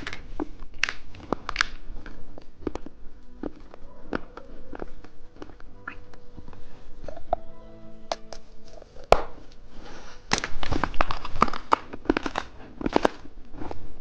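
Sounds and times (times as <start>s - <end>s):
plastic wrapper crinkling: 0.0s - 7.2s, 8.3s - 14.0s.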